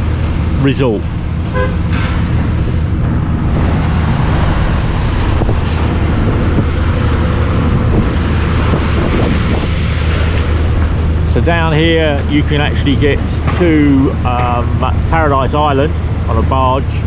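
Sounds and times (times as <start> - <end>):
vehicle engine and road noise: 0.0 - 17.0
wind rushing over microphone: 0.0 - 17.0.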